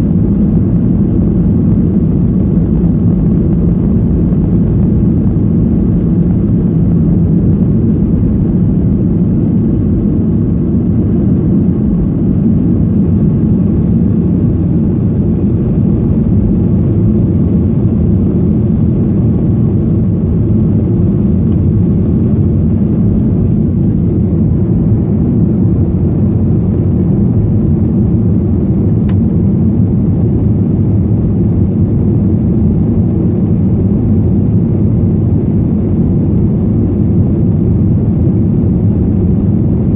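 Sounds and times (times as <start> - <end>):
jet aircraft cabin rumble: 0.0 - 39.9.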